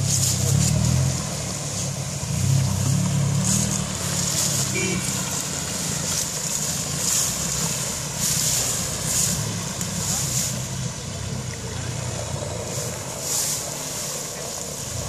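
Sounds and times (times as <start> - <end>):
engine running at low revs: 0.0 - 15.0
water splashing around wheels: 0.0 - 15.0.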